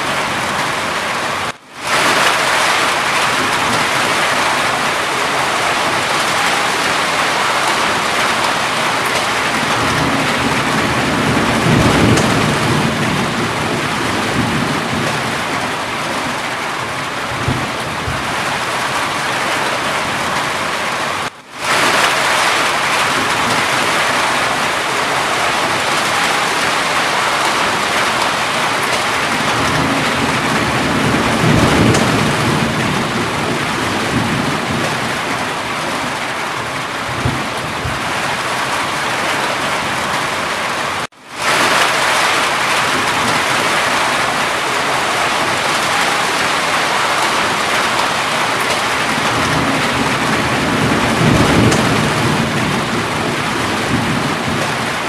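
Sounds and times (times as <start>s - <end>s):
heavy rain falling: 0.0s - 55.0s
thunder rolling: 0.0s - 55.0s.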